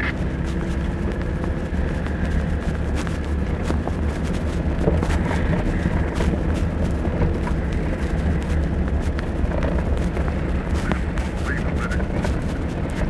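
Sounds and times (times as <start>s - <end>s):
engine and tyre rumble: 0.0s - 13.0s
small clicks and rattles: 0.0s - 13.0s.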